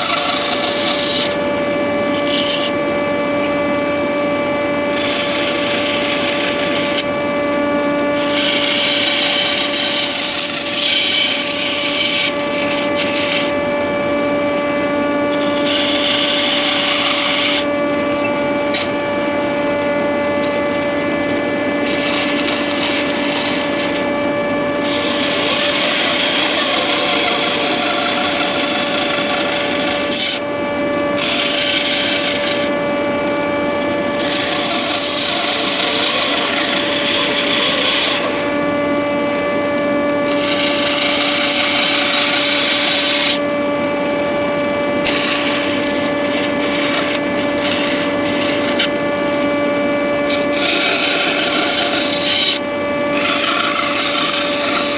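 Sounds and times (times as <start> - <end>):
saw rasping through wood: 0.0 - 3.4, 4.8 - 7.2, 8.0 - 19.0, 21.7 - 32.8, 33.5 - 38.6, 40.2 - 44.0, 44.7 - 54.9
saw motor hum: 0.0 - 54.9.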